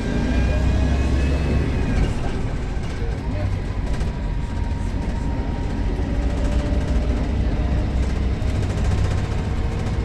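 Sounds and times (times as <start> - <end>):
bus diesel engine rumbling: 0.0 - 10.0.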